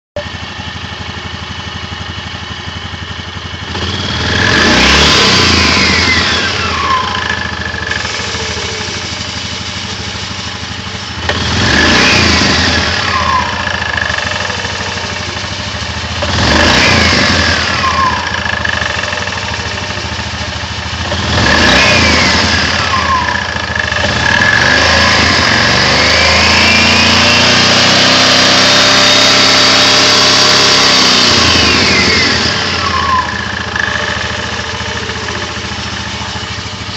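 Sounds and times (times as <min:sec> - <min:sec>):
engine revving: 0:02.1 - 0:36.9.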